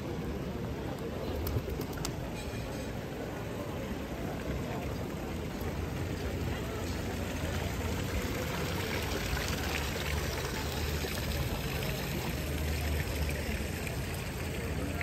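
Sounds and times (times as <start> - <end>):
fountain water splashing into basin: 0.1 - 15.0.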